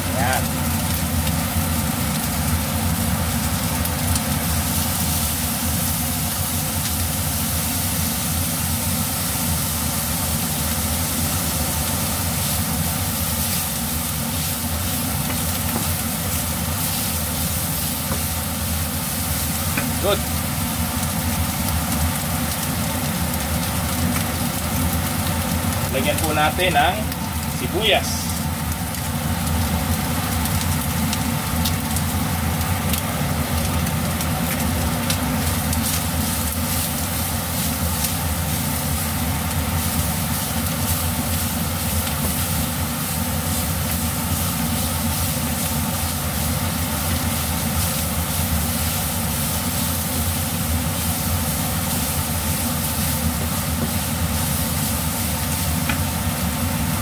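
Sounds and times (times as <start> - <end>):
chicken and onion sizzling in pan: 0.0 - 57.0.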